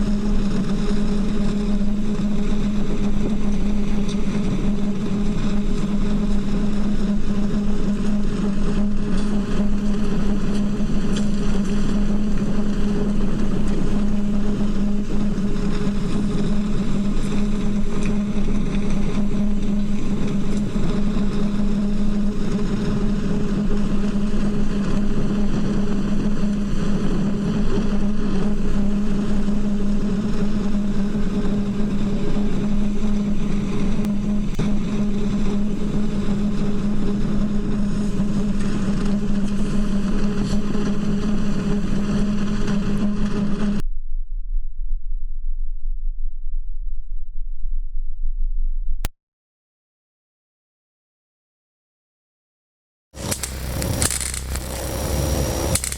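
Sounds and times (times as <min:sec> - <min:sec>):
low held drone from pipes: 0:00.0 - 0:49.1, 0:53.2 - 0:55.9.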